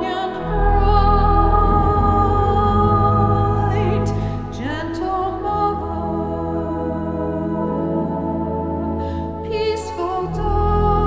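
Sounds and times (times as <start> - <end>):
church organ chords: 0.0 - 9.4.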